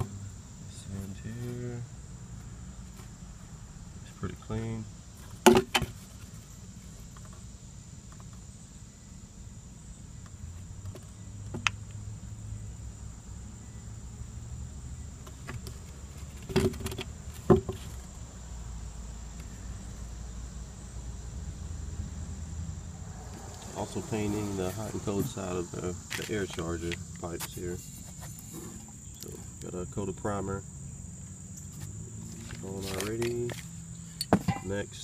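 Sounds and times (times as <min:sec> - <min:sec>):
high-pitched insect hum: 0:00.0 - 0:35.0.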